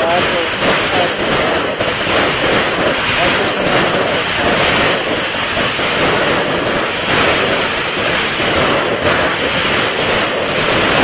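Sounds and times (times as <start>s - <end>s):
fireworks bursts and crackle: 0.0s - 11.0s.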